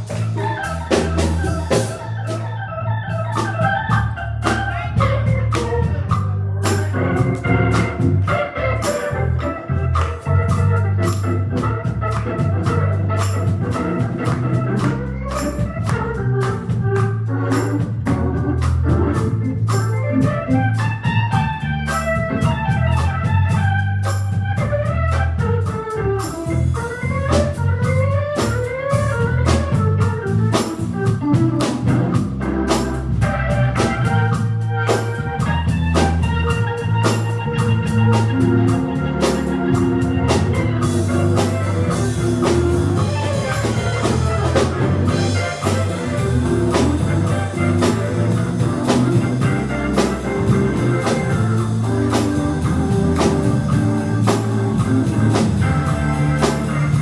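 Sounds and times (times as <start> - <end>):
bass notes: 0.0 - 57.0
drum kit steady beat: 0.0 - 57.0
organ: 0.0 - 57.0.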